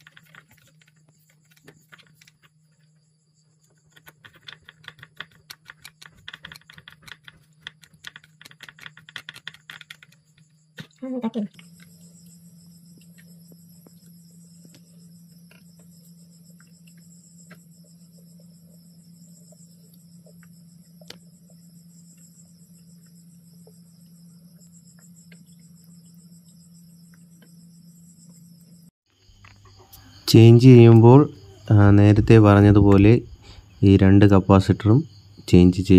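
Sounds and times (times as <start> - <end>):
crickets chirping: 0.0 - 35.9
low steady hum: 0.0 - 35.9.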